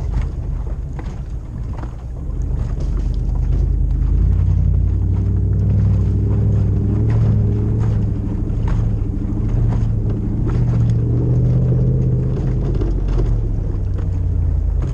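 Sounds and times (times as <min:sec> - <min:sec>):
engine rumbling under throttle: 0:00.0 - 0:14.9.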